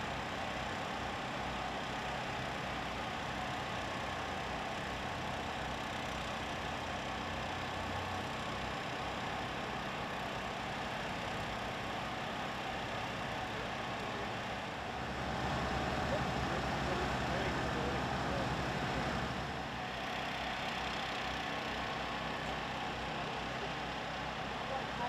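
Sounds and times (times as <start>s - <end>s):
vehicle engine running: 2.2s - 25.0s.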